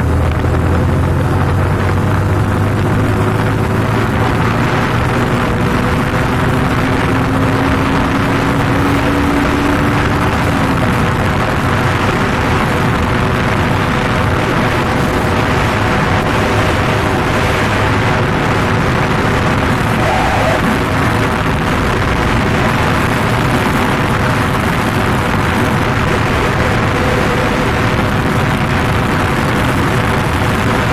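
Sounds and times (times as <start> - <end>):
engine tone climbing slowly: 0.0 - 30.9
motorcycle engine: 0.0 - 30.9
wind and road noise: 0.0 - 30.9.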